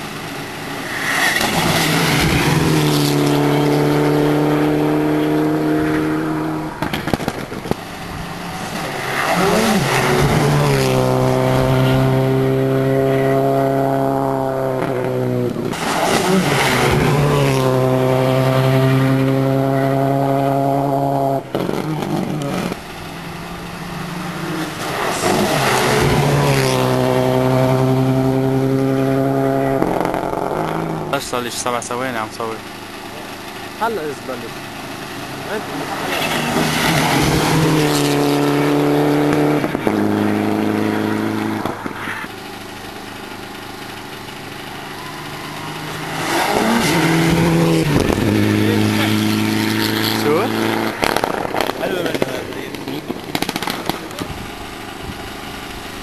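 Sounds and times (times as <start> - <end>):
rally car engine at high revs: 0.0 - 56.0.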